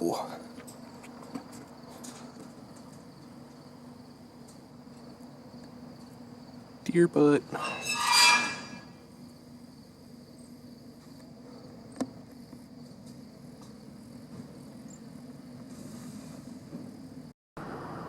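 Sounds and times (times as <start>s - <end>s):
insects chirping: 0.0s - 15.7s.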